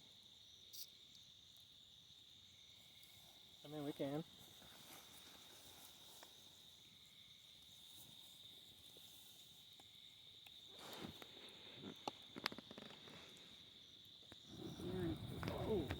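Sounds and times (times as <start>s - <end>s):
crickets chirring: 0.0s - 15.9s
rustle: 2.6s - 15.9s.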